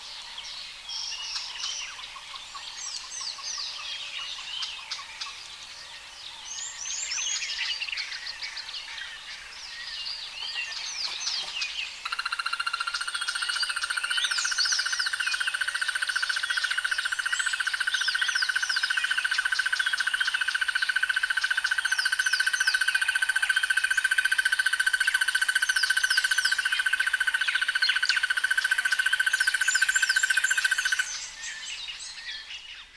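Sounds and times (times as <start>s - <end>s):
birds chirping: 0.0s - 22.8s, 25.6s - 32.9s.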